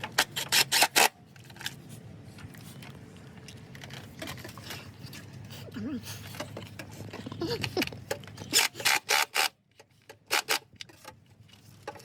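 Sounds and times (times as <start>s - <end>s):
engine parts and tools scraping: 0.0s - 12.0s.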